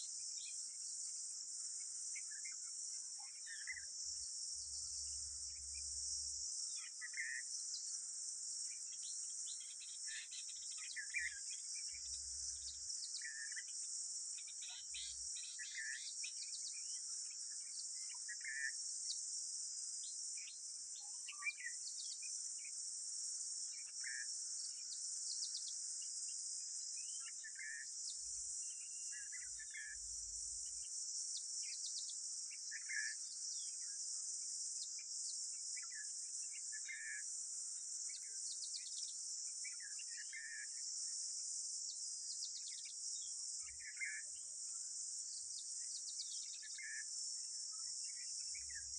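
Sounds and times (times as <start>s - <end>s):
insects chorus: 0.0s - 48.9s.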